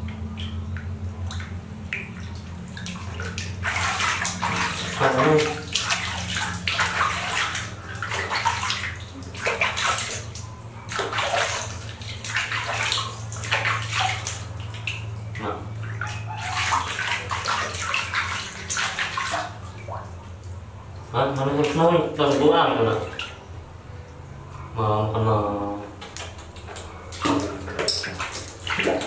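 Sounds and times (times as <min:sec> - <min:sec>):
water splashing and sloshing: 0:00.0 - 0:24.7, 0:25.8 - 0:29.0
steady low hum: 0:00.0 - 0:29.0.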